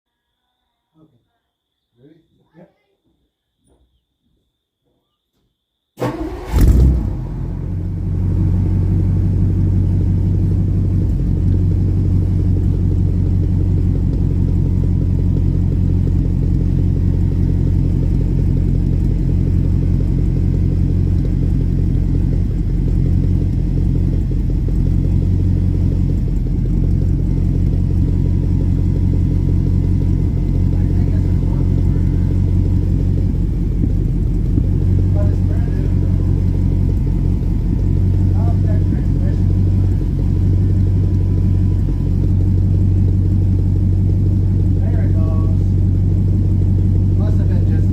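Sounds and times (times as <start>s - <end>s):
car engine starting and running: 6.0s - 47.9s.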